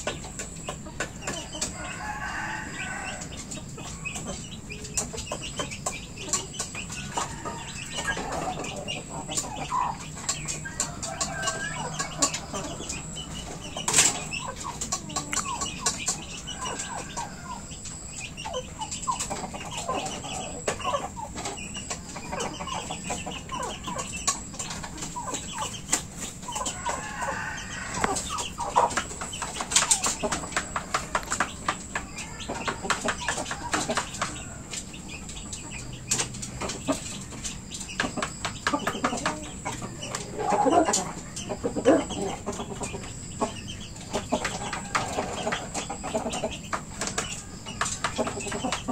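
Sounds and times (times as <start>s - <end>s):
beak pecking metal pot: 0.0s - 48.9s
roosters clucking: 0.0s - 48.9s.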